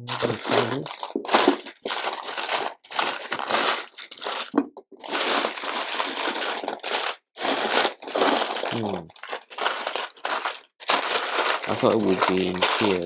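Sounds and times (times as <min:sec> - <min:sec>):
plastic bricks clattering: 0:00.1 - 0:13.0.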